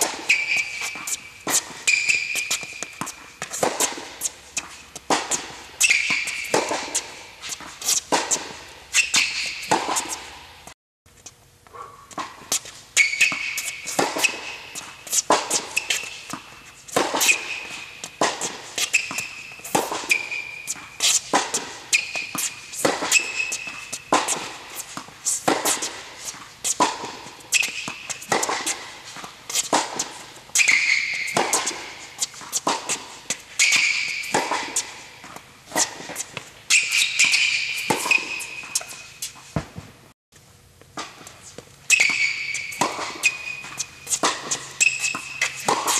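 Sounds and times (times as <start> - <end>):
tennis ball struck and bouncing: 0.0 - 10.8, 11.6 - 40.0, 40.8 - 45.9
sneakers squeaking: 0.0 - 45.9.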